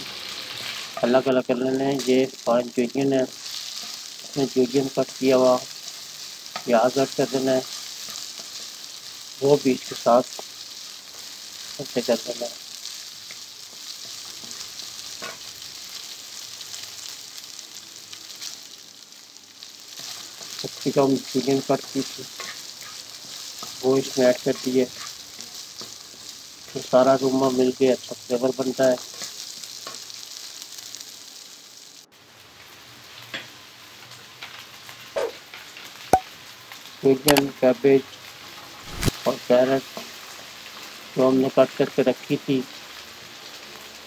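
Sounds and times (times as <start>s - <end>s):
chicken and onion sizzling in oil: 0.0s - 44.0s.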